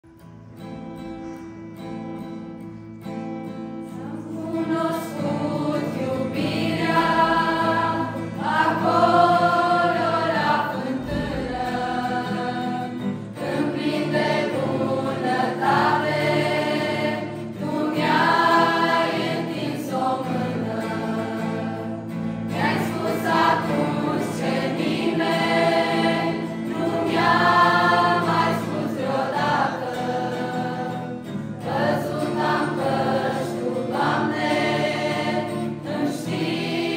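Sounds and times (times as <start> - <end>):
acoustic guitar: 0.0 - 36.9
choir singing: 0.6 - 36.9.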